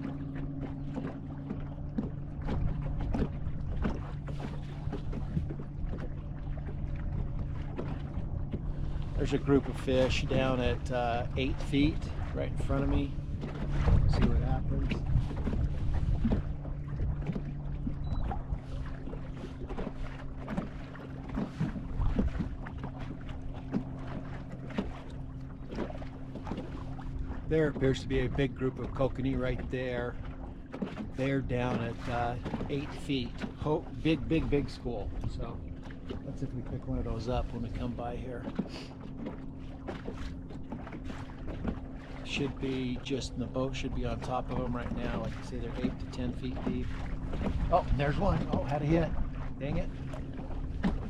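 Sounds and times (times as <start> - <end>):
boat motor running: 0.0 - 51.0
water lapping against hull: 0.0 - 51.0.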